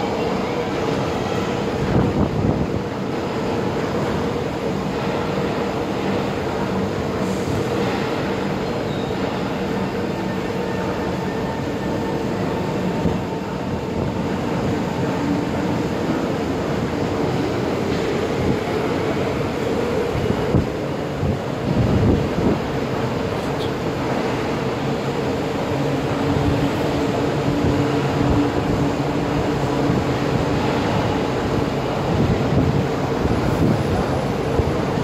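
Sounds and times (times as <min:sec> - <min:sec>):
train hum and rumble: 0:00.0 - 0:35.0.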